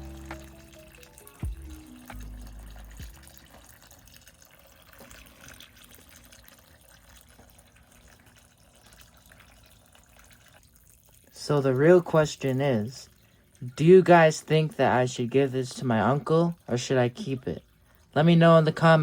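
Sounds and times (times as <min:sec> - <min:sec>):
water trickling into bowl: 0:00.0 - 0:19.0.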